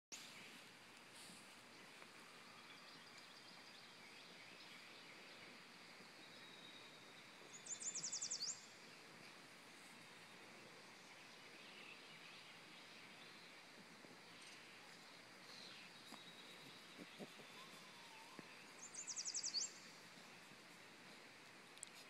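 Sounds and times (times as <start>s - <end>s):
faint background hiss: 0.2s - 22.0s.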